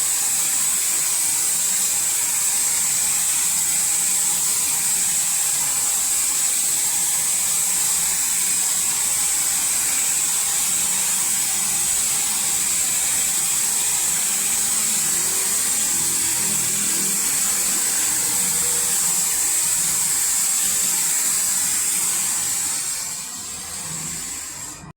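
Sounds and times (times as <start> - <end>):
car wash machine hissing: 0.0 - 24.9.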